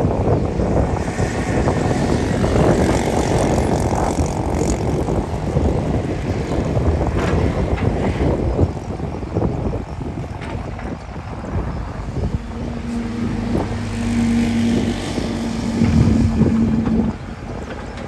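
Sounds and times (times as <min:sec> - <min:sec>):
diesel engine of heavy machinery: 0:00.1 - 0:18.0.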